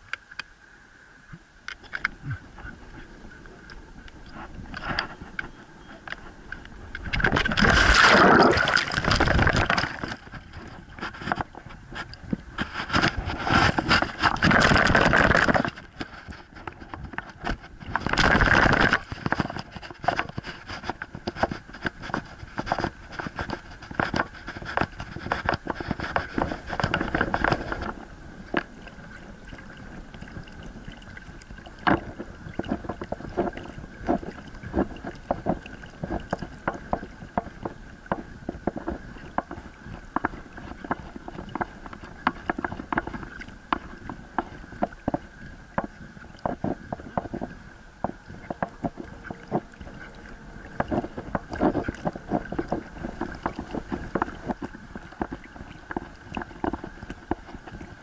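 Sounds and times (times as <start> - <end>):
water splashing along boat hull: 1.2 - 58.0
small clicks and scrapes: 1.7 - 58.0.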